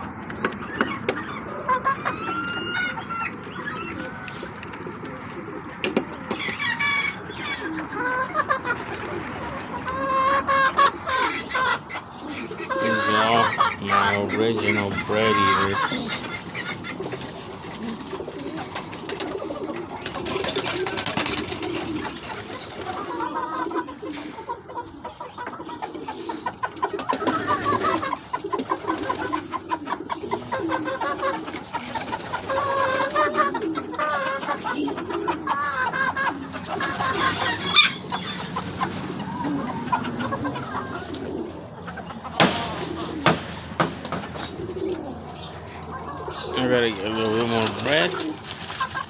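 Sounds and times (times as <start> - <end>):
pigeons cooing: 0.0 - 49.0
fowl clucking and chattering: 0.3 - 49.0.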